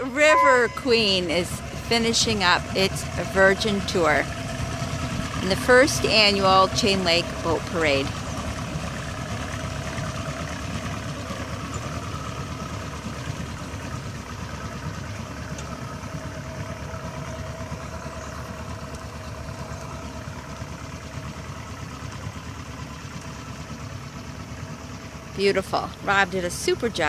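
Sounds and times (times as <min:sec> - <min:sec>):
boat motor humming: 0:00.0 - 0:27.0.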